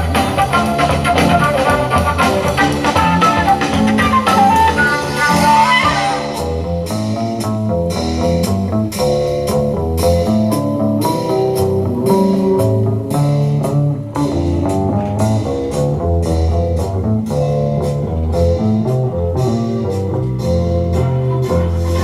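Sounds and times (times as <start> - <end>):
band music with guitar and bass: 0.0 - 22.0.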